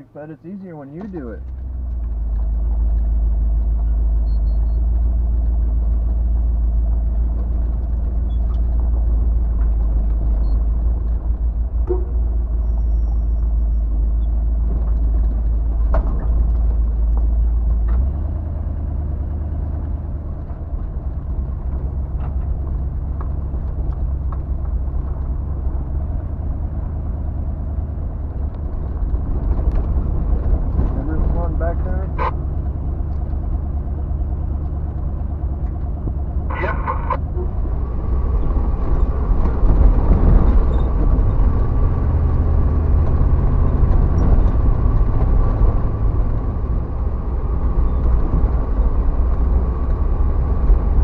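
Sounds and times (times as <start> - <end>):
engine and road rumble: 0.0 - 51.0.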